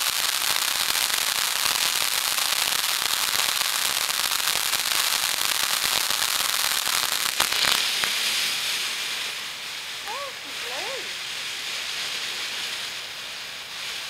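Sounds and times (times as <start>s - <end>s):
firework fountain crackling: 0.0s - 14.0s
firework fountain hissing: 0.0s - 14.0s
firework pops: 0.0s - 14.0s.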